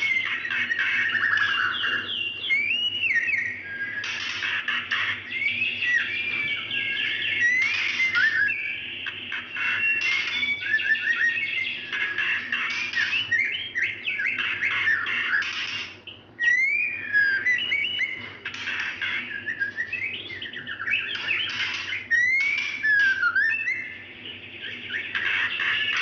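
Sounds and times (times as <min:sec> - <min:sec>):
bird chattering and whistling: 0:00.0 - 0:26.0.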